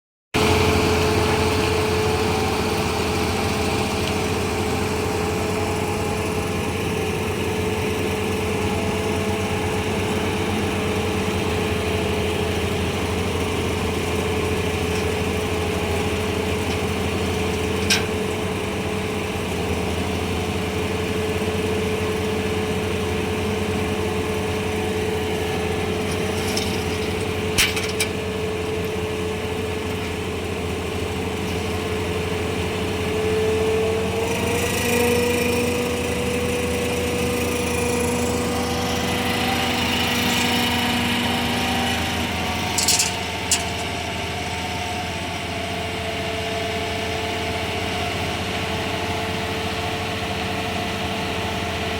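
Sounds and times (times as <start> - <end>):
steady whine: 0.4 - 33.6, 35.1 - 44.6
diesel machinery running: 0.4 - 51.9.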